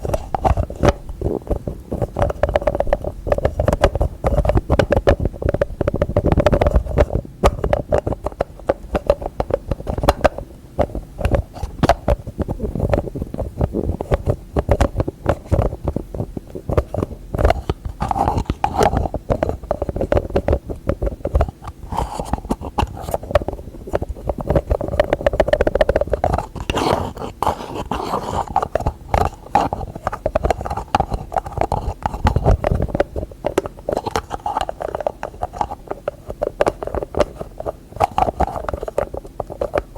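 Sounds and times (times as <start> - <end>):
fingernails tapping on containers: 0.0 - 39.9.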